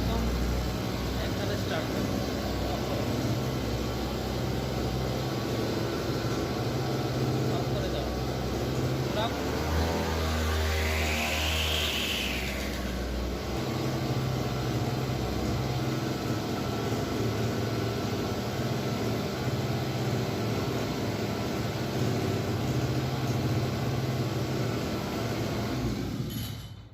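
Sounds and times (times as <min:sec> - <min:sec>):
brush cutter engine running: 0:00.0 - 0:26.3.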